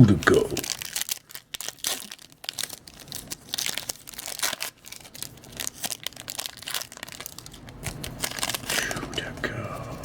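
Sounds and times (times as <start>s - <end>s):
wrapper crinkling and tearing: 0.0s - 9.3s.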